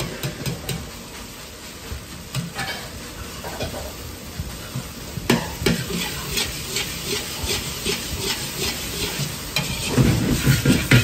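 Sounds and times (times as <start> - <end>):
ladle scraping and knocking wok: 0.0 - 11.0
rice sizzling: 0.0 - 11.0.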